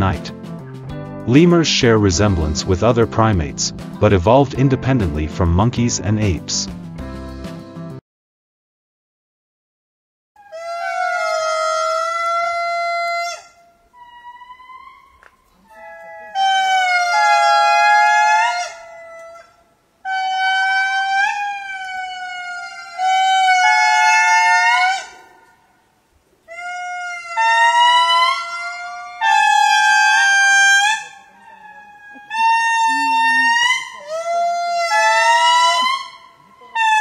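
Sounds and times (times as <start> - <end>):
lemurs calling: 0.0 - 6.8, 10.4 - 25.6, 26.3 - 37.0.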